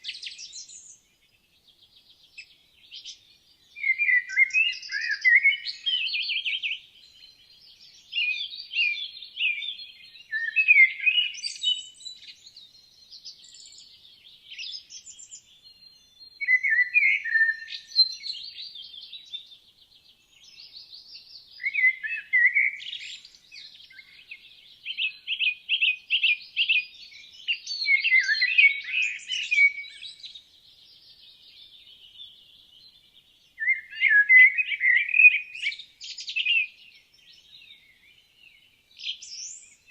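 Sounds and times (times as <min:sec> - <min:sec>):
songbirds singing and trilling: 0:00.0 - 0:39.9.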